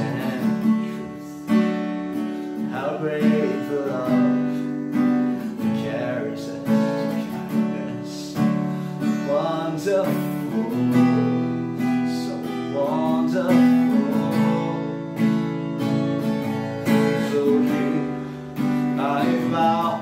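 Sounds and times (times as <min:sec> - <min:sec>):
man singing a slow worship song: 0:00.0 - 0:01.6, 0:02.6 - 0:15.0, 0:16.5 - 0:20.0
strummed acoustic guitar: 0:00.0 - 0:20.0.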